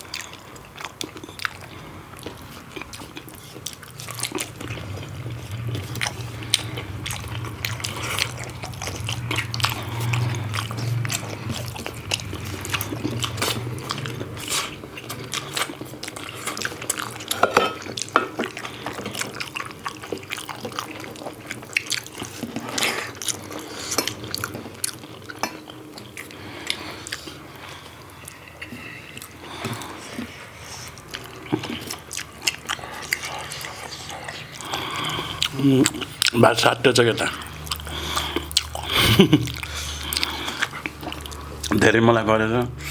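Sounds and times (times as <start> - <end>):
wet chewing and lip smacks: 0.0 - 41.8.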